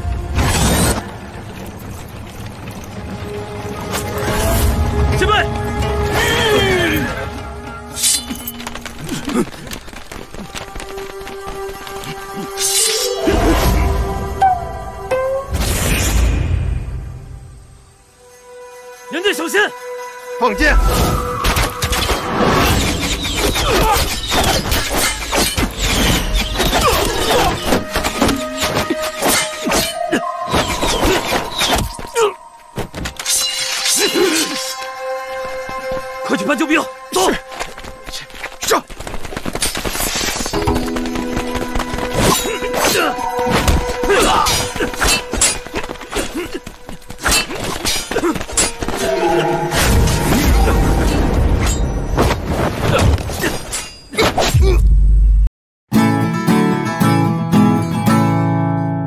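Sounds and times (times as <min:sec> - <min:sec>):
dramatic music of held notes: 0:00.0 - 0:38.8, 0:40.4 - 0:52.1.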